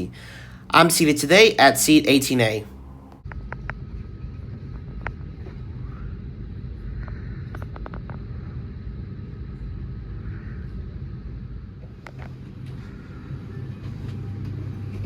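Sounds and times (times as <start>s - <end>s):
aircraft air supply rumble: 0.0s - 15.0s.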